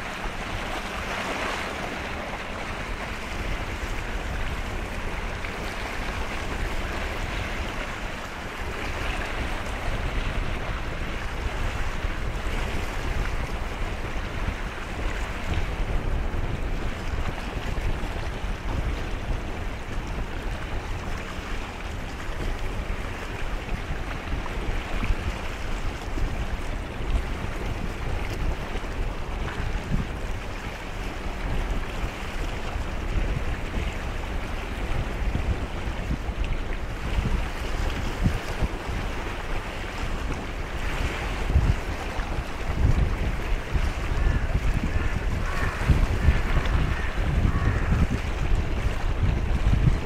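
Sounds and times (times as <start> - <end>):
sea water washing: 0.0 - 50.0
wind buffeting microphone: 0.0 - 50.0.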